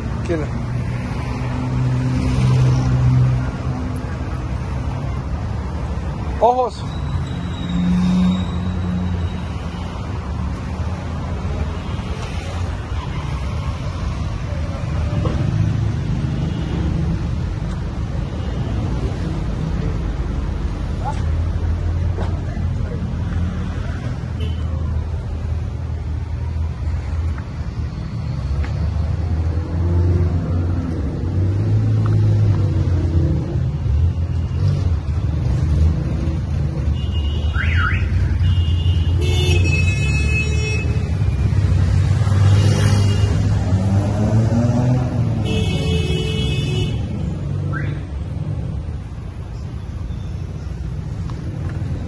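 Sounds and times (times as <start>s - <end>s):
low rumble of street traffic: 0.0s - 52.0s.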